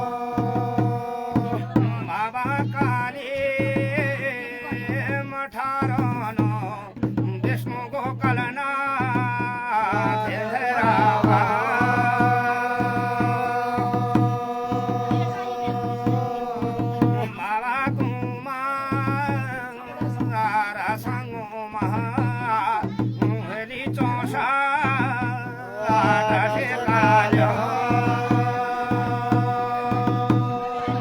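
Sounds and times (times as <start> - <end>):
low drum beat: 0.0 - 31.0
man singing folk song: 0.0 - 31.0.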